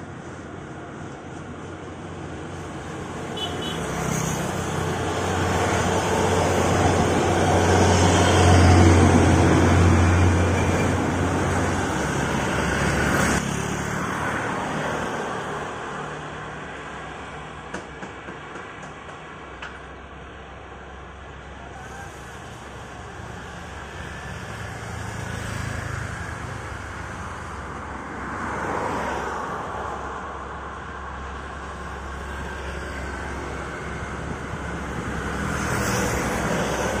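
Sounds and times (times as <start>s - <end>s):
vehicles passing by: 0.0s - 37.0s.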